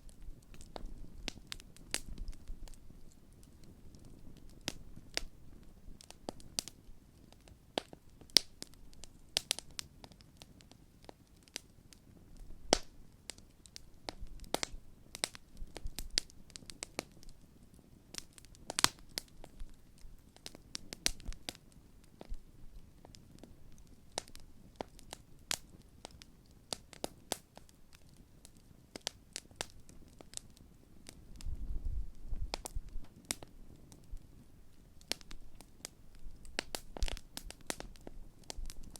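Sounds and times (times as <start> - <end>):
low rumble of flames: 0.0 - 38.9
wood crackling and popping: 0.0 - 38.9.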